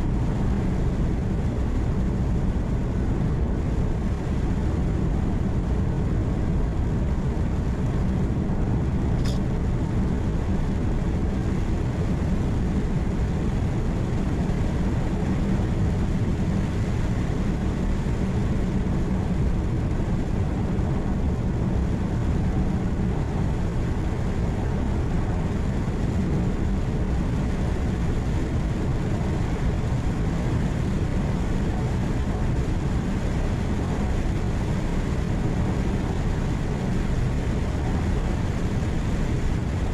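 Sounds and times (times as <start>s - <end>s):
road noise: 0.0s - 39.9s
truck engine hum: 0.0s - 39.9s.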